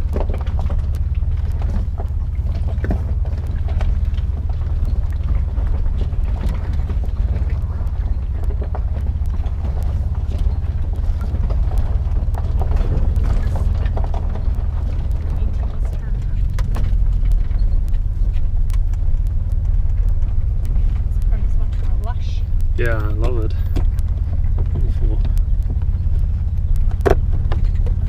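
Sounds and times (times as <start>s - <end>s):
engine low drone: 0.0s - 28.0s
knocks and rattles: 0.0s - 28.0s.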